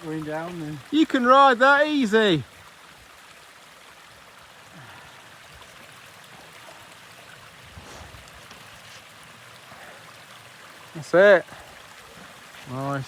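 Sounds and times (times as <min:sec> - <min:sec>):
stream running water: 0:00.0 - 0:13.0.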